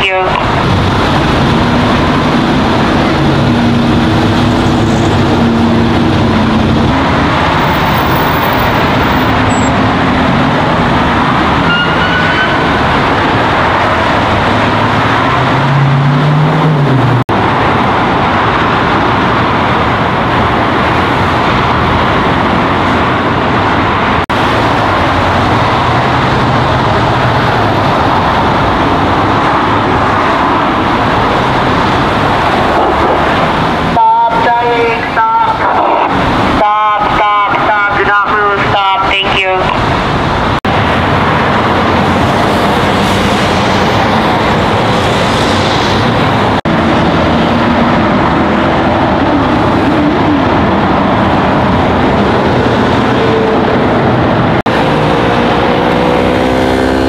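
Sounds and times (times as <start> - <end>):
freeway traffic passing: 0.0 - 57.0.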